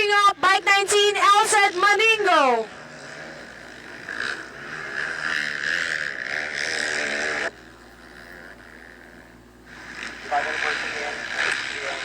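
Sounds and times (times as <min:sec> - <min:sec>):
low steady hum: 0:00.0 - 0:12.0
motocross bike engines revving: 0:00.0 - 0:12.0.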